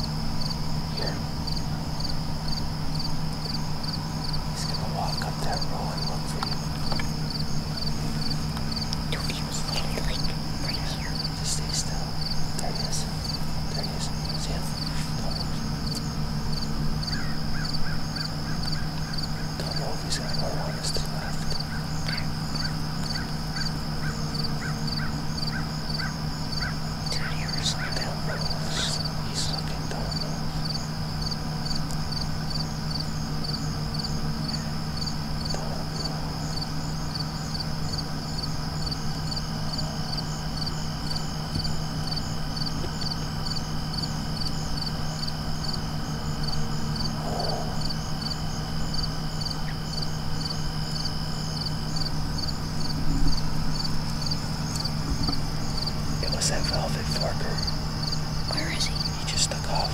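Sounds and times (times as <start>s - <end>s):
crickets chirping: 0.0s - 59.9s
steady low hum: 0.0s - 59.9s.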